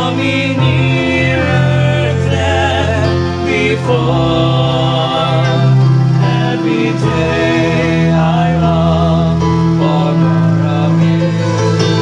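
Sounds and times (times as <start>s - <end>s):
guitar accompaniment: 0.0s - 12.0s
person singing: 0.0s - 12.0s.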